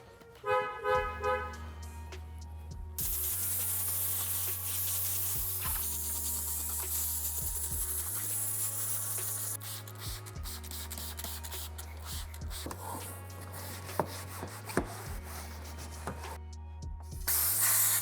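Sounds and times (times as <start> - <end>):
background music with bass: 0.0 - 18.0.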